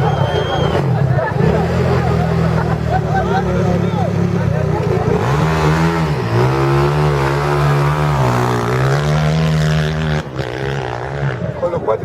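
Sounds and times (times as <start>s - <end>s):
racing motorcycle engine revving: 0.0s - 11.9s.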